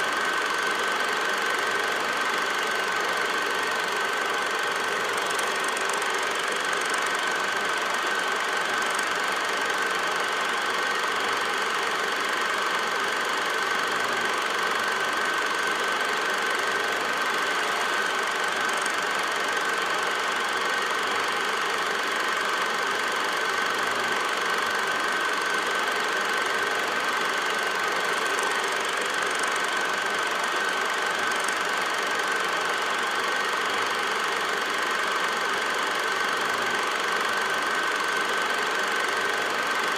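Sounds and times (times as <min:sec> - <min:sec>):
film projector clatter: 0:00.0 - 0:39.9
projector high whine: 0:00.0 - 0:39.9.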